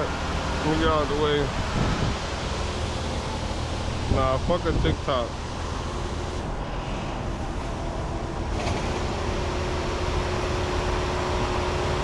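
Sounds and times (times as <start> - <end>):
car wash machinery hum: 0.0 - 12.0.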